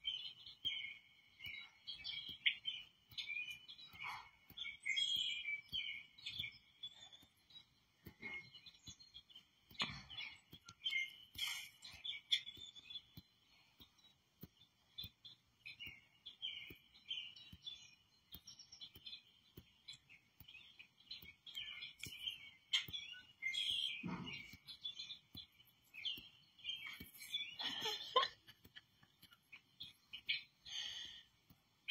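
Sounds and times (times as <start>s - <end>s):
recorded birdsong on television: 0.0s - 31.9s.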